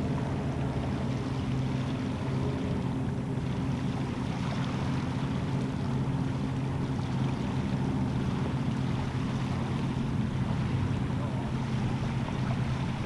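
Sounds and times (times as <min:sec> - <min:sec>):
motorboat engine drone: 0:00.0 - 0:13.0.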